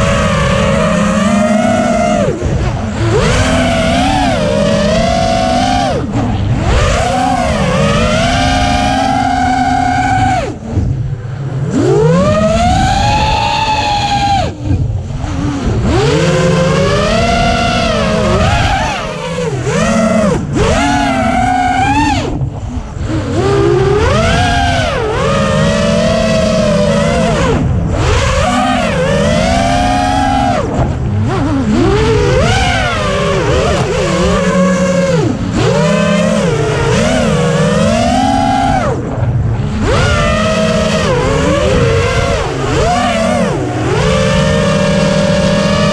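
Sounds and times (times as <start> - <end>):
drone motors whining: 0.0 - 45.9.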